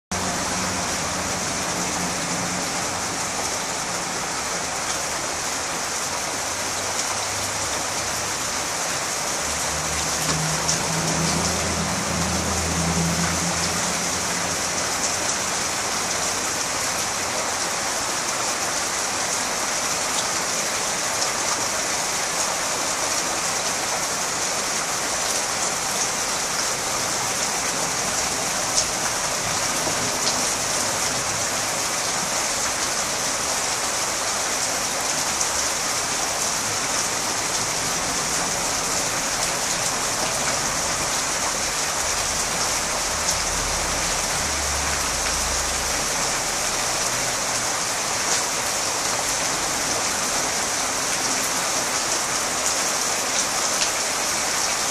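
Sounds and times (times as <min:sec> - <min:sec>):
rain on foliage: 0:00.1 - 0:54.9.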